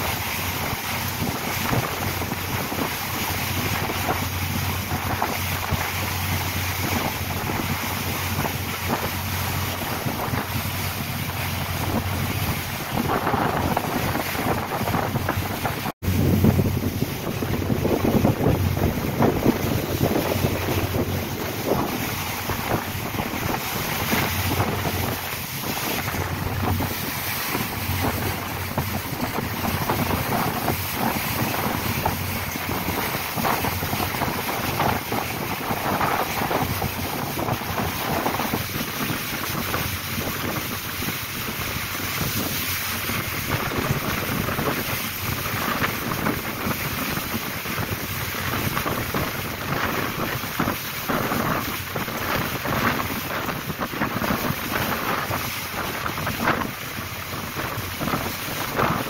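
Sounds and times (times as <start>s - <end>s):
water rushing past hull: 0.0s - 59.0s
wind buffeting microphone: 0.0s - 59.0s.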